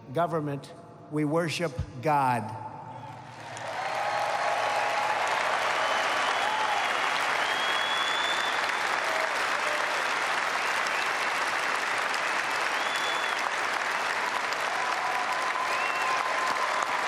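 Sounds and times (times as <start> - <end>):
audience applauding: 3.3 - 17.0.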